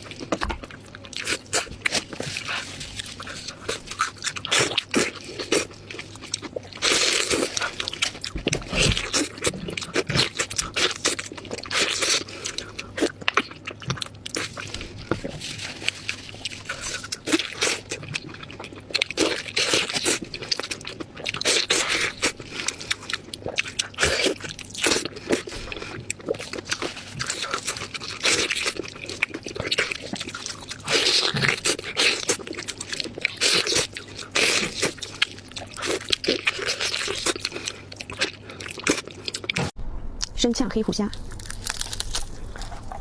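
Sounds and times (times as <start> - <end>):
crunching crisp food: 0.0 - 40.3, 41.1 - 43.0
wet chewing: 0.0 - 40.3, 41.0 - 43.0.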